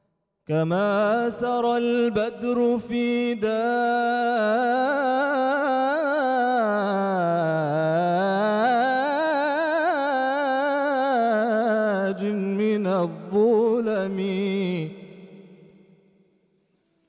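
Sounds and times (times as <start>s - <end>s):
man singing devotional melisma: 0.4s - 16.0s.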